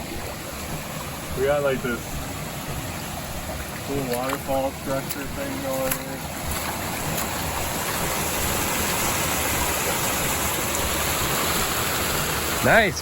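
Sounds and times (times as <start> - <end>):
waterfall pouring over rocks: 0.0 - 13.0.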